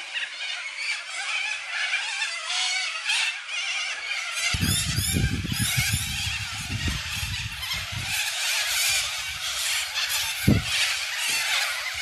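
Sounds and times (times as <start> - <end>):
flock of corellas screeching: 0.0 - 12.0.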